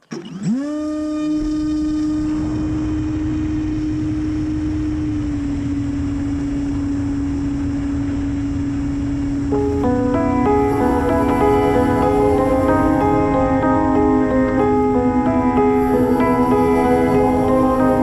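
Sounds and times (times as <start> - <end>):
electric motor and propeller whine: 0.4 - 18.0.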